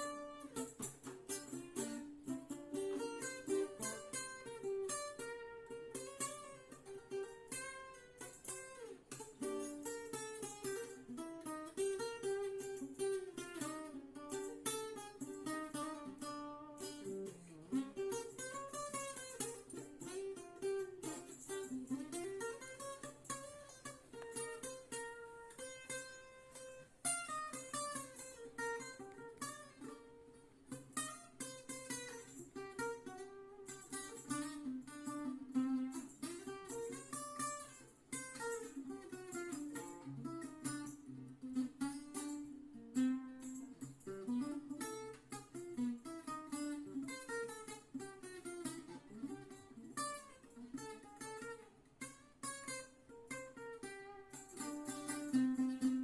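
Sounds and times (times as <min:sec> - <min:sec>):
plucked acoustic guitar melody: 0:00.0 - 0:56.0.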